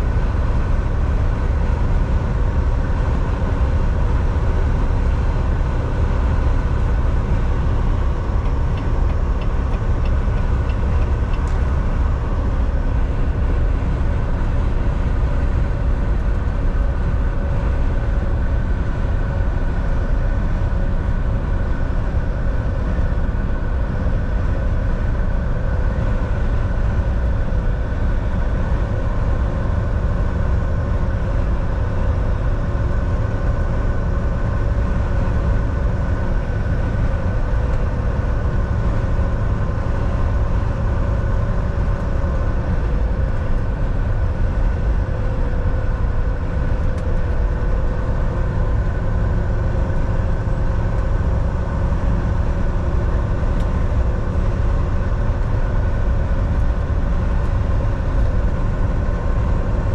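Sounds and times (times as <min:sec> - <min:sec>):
road noise: 0:00.0 - 0:59.9
truck diesel engine rumble: 0:00.0 - 0:59.9.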